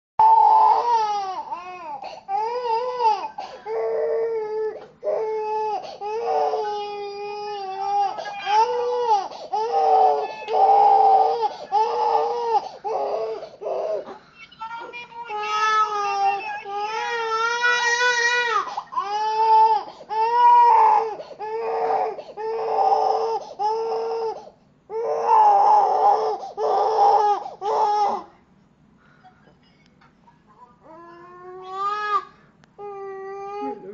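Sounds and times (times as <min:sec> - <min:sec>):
baby crying: 0:00.2 - 0:14.2, 0:14.8 - 0:28.3, 0:30.8 - 0:33.9.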